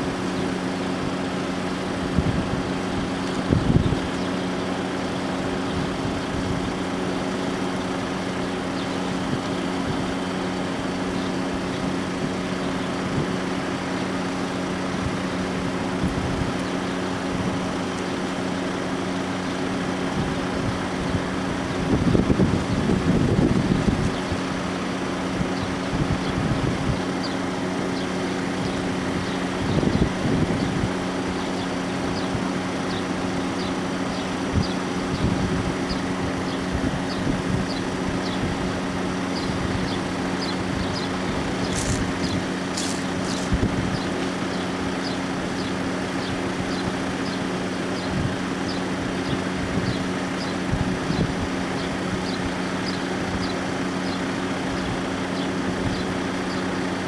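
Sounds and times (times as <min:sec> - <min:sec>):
wind buffeting microphone: 0:01.0 - 0:17.8, 0:19.9 - 0:27.4, 0:28.0 - 0:33.0, 0:33.7 - 0:47.3, 0:47.9 - 0:53.5.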